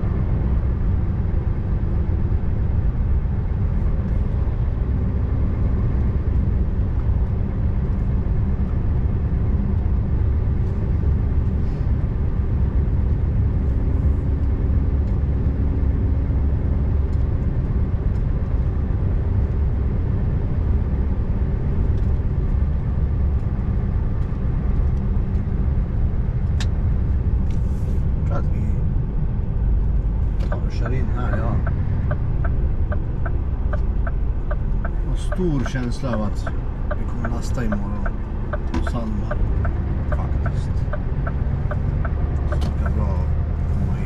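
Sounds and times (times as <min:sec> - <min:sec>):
road rumble: 0:00.0 - 0:44.0
truck engine running: 0:00.0 - 0:44.0.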